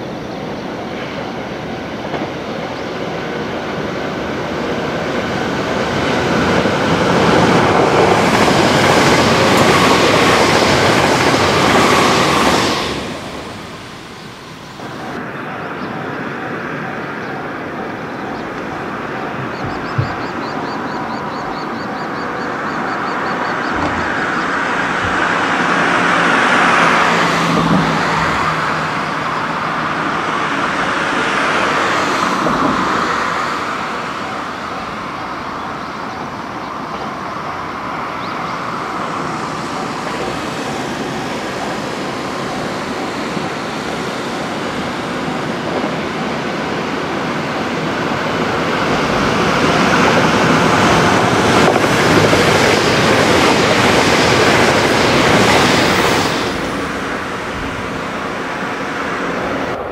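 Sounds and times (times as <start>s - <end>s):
electric train passing: 0.0s - 59.9s.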